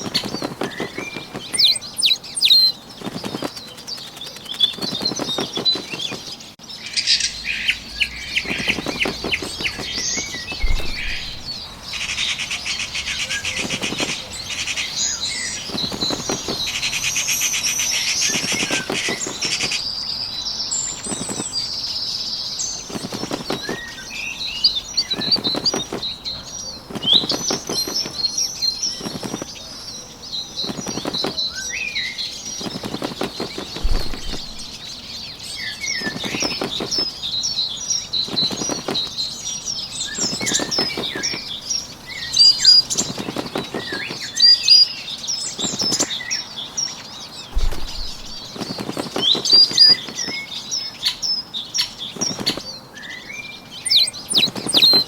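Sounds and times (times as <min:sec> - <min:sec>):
bird wings flapping: 0:00.0 - 0:06.6, 0:07.8 - 0:19.9, 0:20.8 - 0:21.7, 0:22.7 - 0:39.4, 0:40.0 - 0:44.8, 0:45.5 - 0:46.2, 0:47.5 - 0:50.6, 0:52.0 - 0:52.7, 0:53.9 - 0:55.0
small birds chirping: 0:00.0 - 0:55.0.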